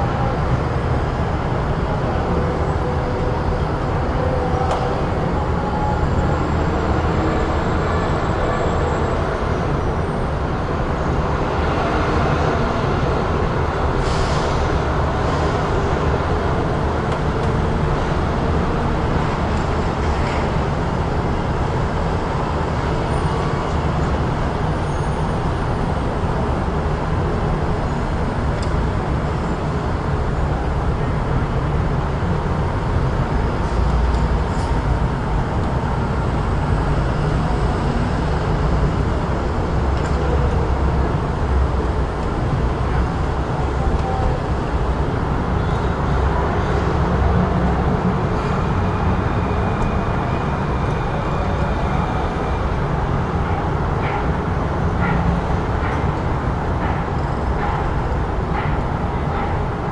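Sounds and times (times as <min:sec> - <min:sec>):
rumble of passing vehicles: 0:00.0 - 0:59.9.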